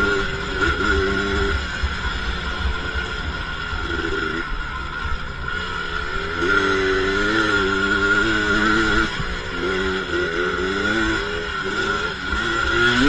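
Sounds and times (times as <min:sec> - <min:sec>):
atv engine revving: 0:00.0 - 0:13.0
steady high whine: 0:00.0 - 0:13.0.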